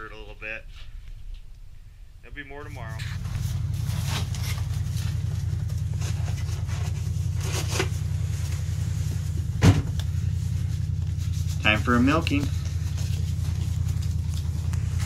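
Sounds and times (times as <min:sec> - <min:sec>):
motor droning with fast pulse: 0:00.9 - 0:15.0.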